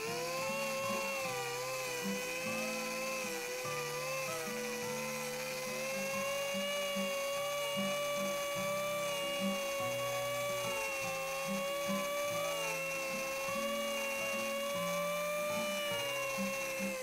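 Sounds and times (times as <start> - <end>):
electric saw motor whining: 0.0 - 17.0.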